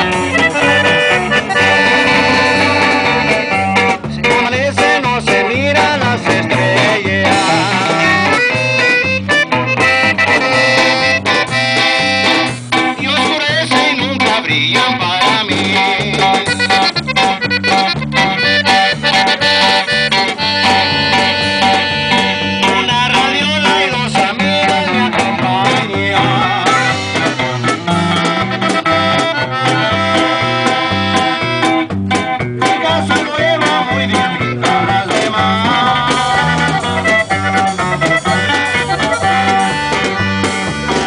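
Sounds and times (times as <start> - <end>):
band playing: 0.0 - 41.0
button accordion: 0.0 - 41.0
electric bass: 0.0 - 41.0.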